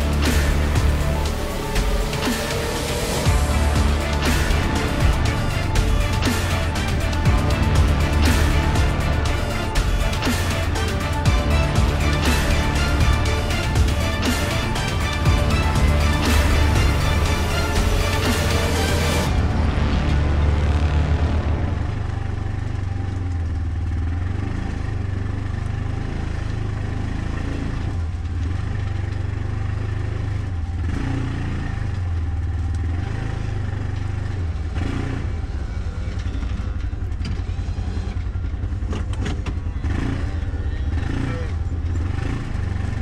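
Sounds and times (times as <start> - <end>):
utility vehicle engine running: 0.0 - 43.0.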